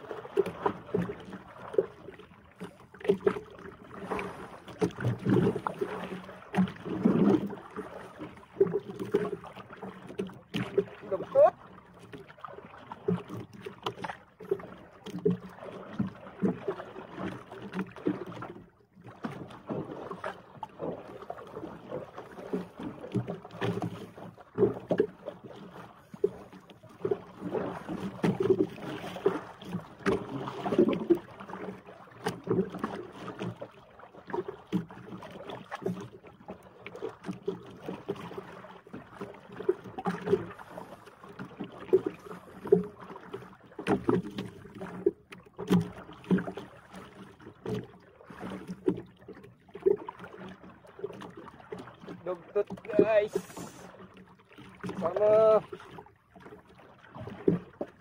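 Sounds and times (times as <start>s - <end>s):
water sloshing against boat hull: 0.0s - 58.0s.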